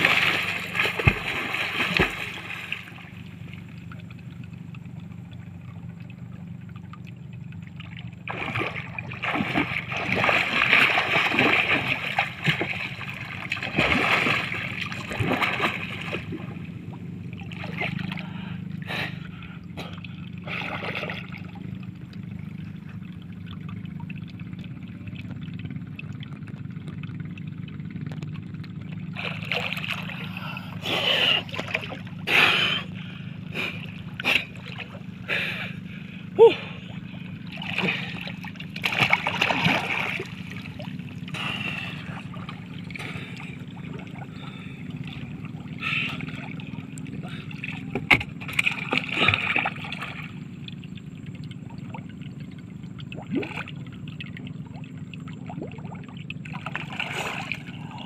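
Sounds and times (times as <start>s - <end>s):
water lapping: 0.0s - 58.0s
water splashing: 0.0s - 58.0s.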